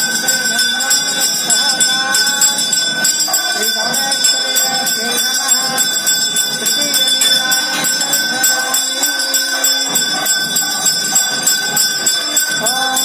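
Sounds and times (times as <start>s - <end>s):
temple bell rung rapidly: 0.0s - 13.0s.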